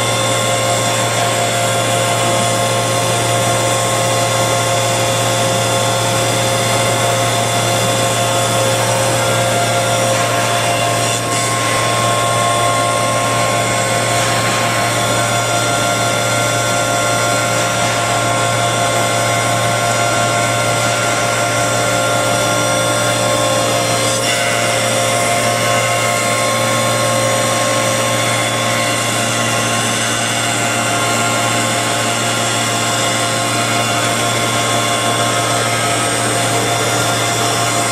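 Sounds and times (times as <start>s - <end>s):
low machine hum: 0.0s - 37.9s
milling machine whining: 0.0s - 37.9s.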